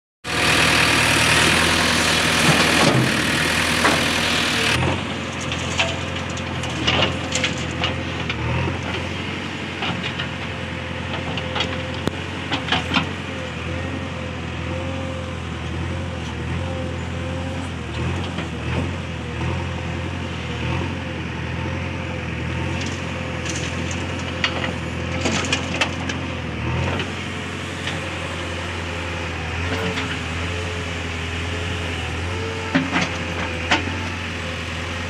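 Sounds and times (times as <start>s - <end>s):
diesel engine under load: 0.2s - 35.0s.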